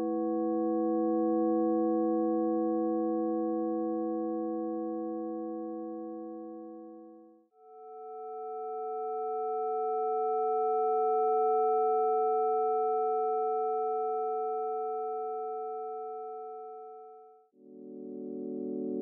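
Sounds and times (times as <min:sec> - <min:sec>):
sine tone chord: 0:00.0 - 0:19.0.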